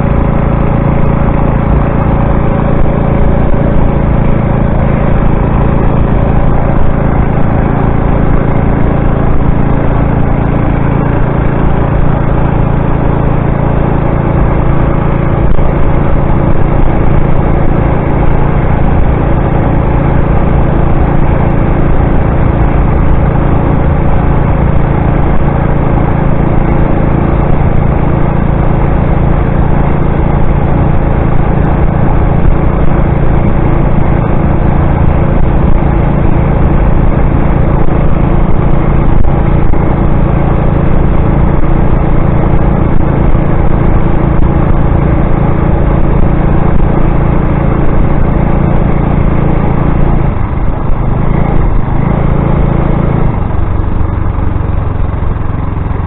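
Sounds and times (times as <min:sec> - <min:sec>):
small petrol engine running: 0:00.0 - 0:56.0.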